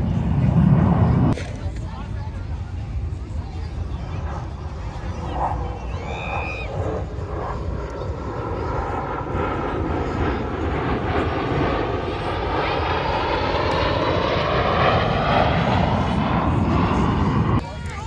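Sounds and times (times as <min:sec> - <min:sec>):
airplane engine roar: 0:00.0 - 0:18.0.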